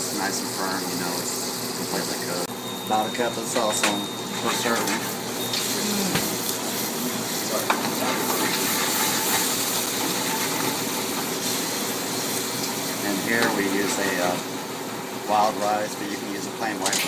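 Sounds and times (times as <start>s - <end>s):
food sizzling in a pan: 0.0s - 16.8s.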